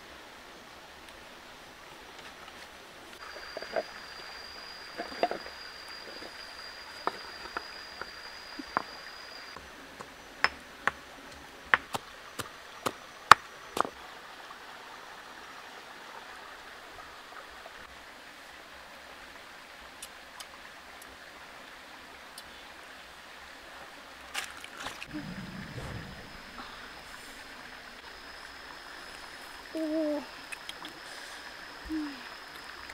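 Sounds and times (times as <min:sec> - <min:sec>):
stream water running: 0:00.0 - 0:32.9.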